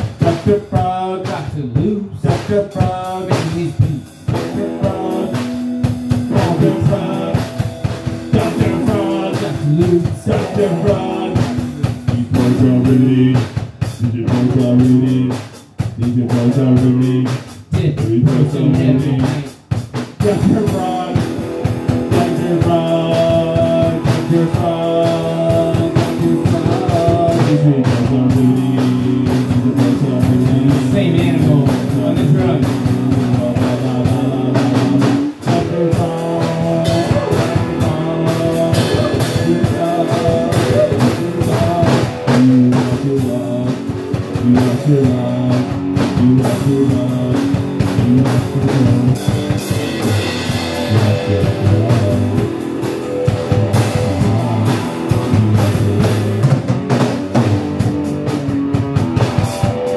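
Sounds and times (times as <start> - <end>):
drum kit steady beat: 0.0 - 59.9
guitar: 0.0 - 59.9.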